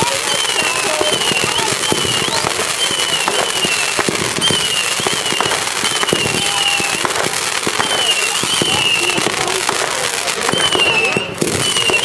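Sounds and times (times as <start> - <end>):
high whistle: 0.0 - 9.2, 10.4 - 12.0
fireworks crackling bangs: 0.0 - 12.0.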